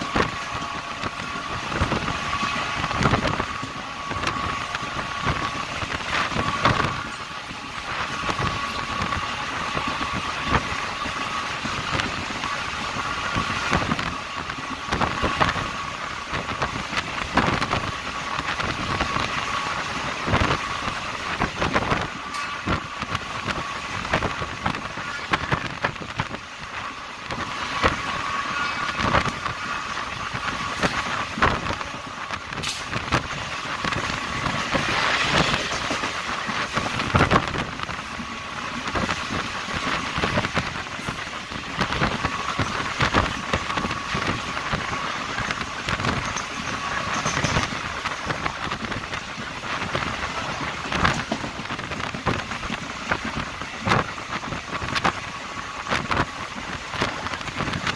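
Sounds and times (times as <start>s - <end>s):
train rushing noise: 0.0s - 57.9s
train wheels clattering on rails: 0.0s - 57.9s.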